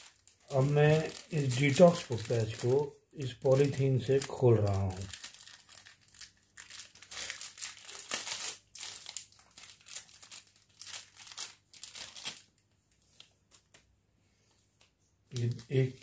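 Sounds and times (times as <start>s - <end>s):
plastic wrapping crinkling: 0.0s - 13.8s, 15.3s - 16.0s.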